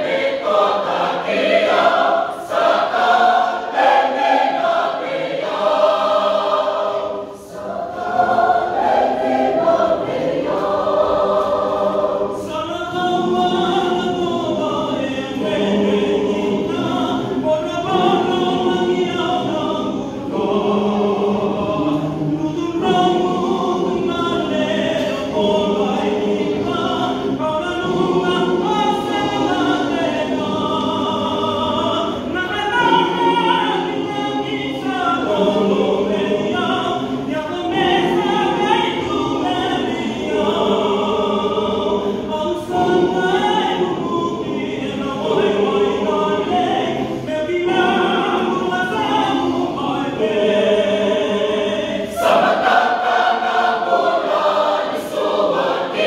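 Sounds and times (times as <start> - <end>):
choir singing a hymn unaccompanied: 0.0 - 56.0.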